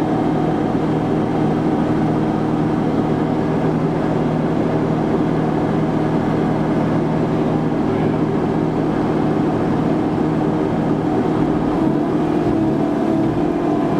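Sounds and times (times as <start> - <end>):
harvester engine running under load: 0.0 - 13.9.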